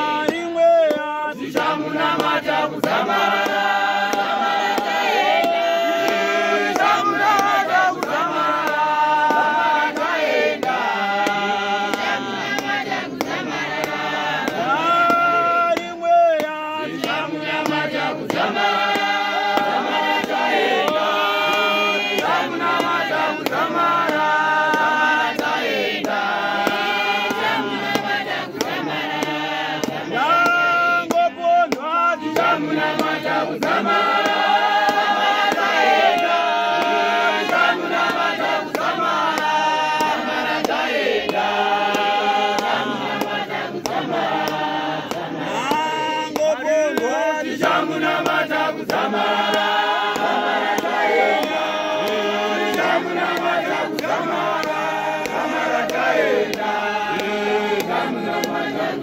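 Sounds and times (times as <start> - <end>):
men singing together: 0.0 - 59.0.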